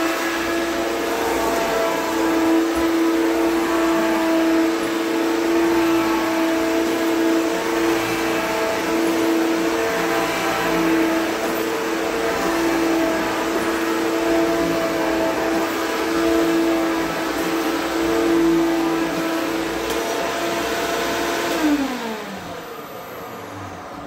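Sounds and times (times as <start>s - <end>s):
vacuum cleaner motor whine: 0.0s - 24.0s.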